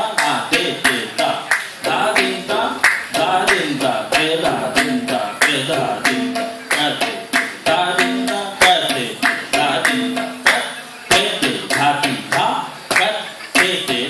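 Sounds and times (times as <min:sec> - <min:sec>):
tabla drums playing: 0:00.0 - 0:14.0.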